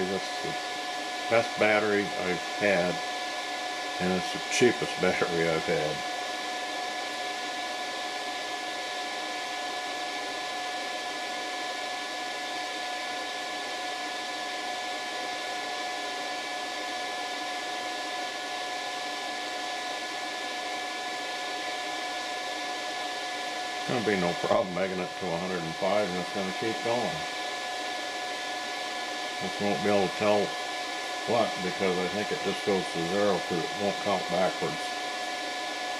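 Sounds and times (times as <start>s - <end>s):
high whine: 0.0s - 14.1s, 14.7s - 35.9s
fan whir: 0.0s - 35.9s.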